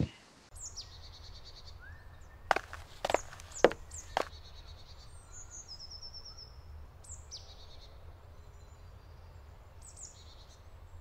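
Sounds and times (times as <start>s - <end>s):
small songbirds singing: 0.5s - 11.0s.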